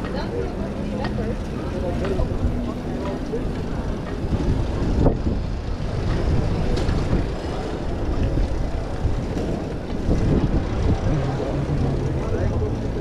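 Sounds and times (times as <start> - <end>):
city street noise: 0.0 - 13.0
bicycle rolling over brick paving: 1.0 - 13.0
wind on microphone: 1.4 - 12.8.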